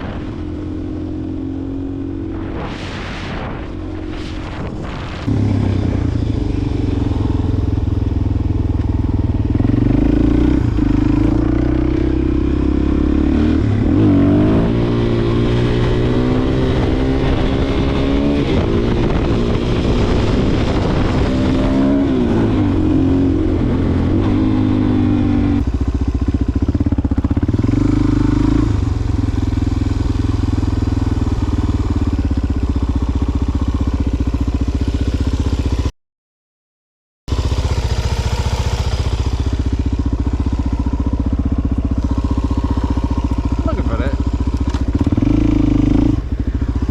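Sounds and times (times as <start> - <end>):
motorcycle engine revving: 0.0 - 35.9, 37.3 - 46.9.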